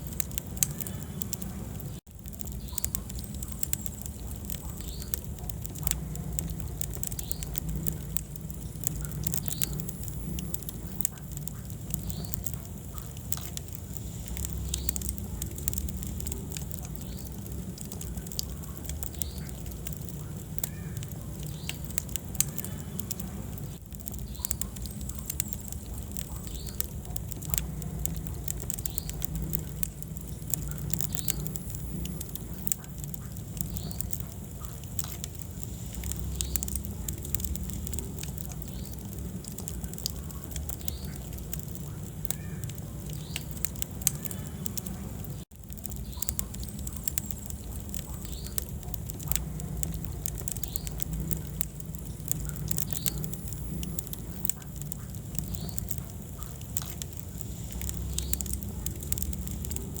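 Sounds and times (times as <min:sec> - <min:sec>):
low rumble of flames: 0:00.0 - 1:00.0
wood fire crackling and popping: 0:00.0 - 1:00.0.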